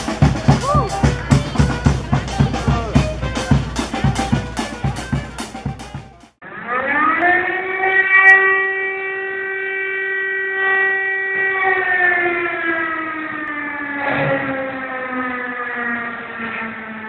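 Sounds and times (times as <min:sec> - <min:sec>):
siren wailing: 0:00.0 - 0:03.6, 0:06.4 - 0:17.0.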